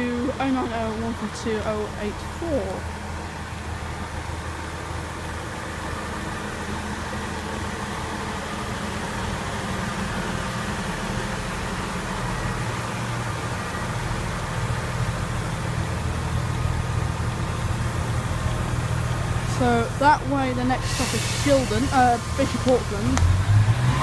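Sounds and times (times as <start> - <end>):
diesel train engines idling: 0.0 - 24.0.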